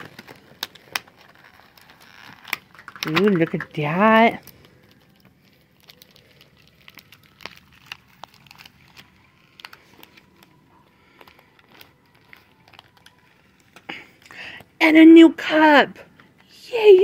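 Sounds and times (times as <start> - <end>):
plastic packaging crinkling: 0.0 - 14.7.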